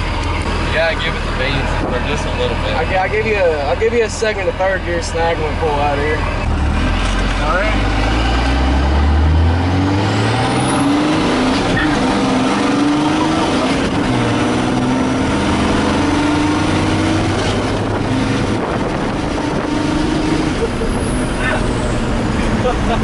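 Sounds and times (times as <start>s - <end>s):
truck engine accelerating: 0.0s - 23.0s.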